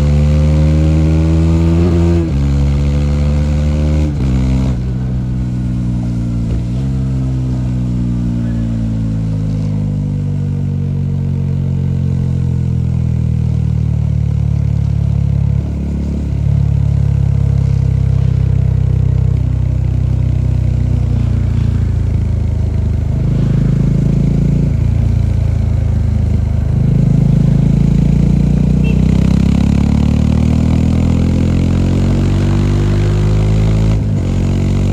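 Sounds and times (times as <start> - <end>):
motorcycle engine and exhaust: 0.0 - 34.9.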